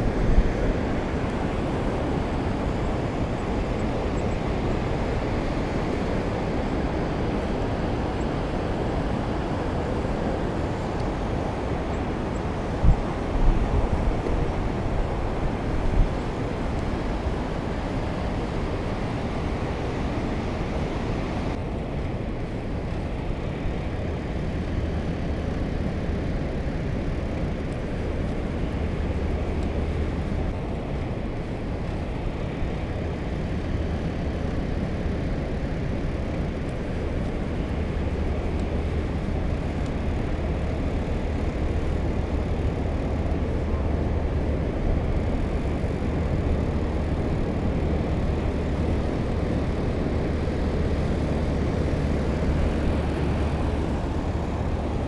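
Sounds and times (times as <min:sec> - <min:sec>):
bike tyre rumble: 0:00.0 - 0:55.0
wind buffeting microphone: 0:00.0 - 0:55.0.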